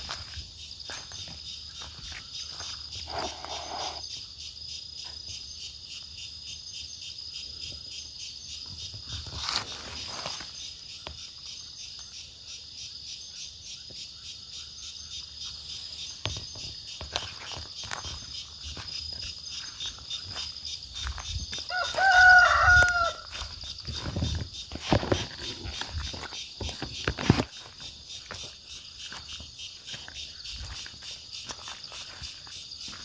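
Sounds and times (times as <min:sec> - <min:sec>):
crickets chirping: 0:00.0 - 0:33.0.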